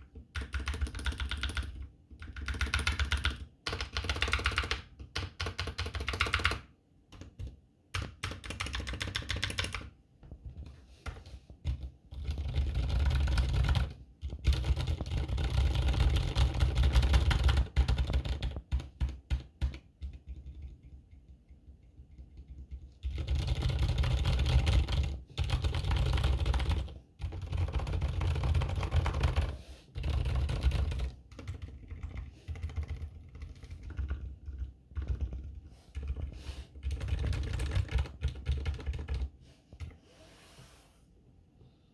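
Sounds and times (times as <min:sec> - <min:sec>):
muted mechanical keyboard typing: 0:00.0 - 0:40.0.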